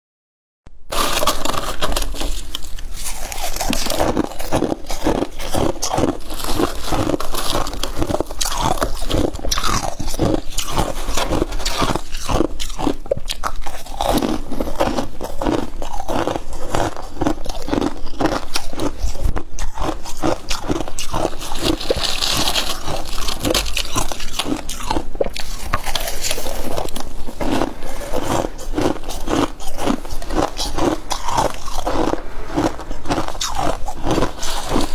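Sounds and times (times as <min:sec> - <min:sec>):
crunchy chewing of frost: 0:00.9 - 0:34.9.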